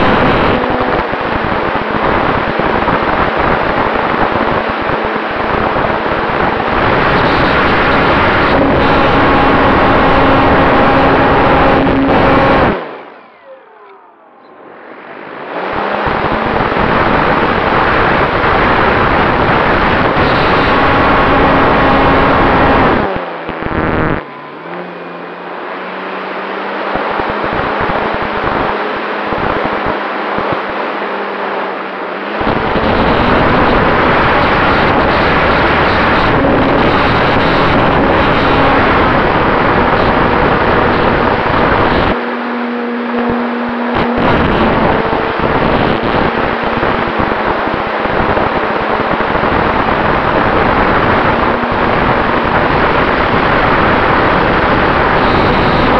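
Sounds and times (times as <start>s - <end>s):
wind rush: 0.0s - 13.2s, 14.4s - 24.6s, 26.5s - 55.9s.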